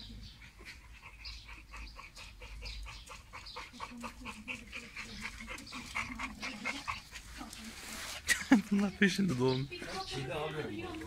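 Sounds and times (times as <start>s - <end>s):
dogs panting and whimpering: 0.0s - 11.0s.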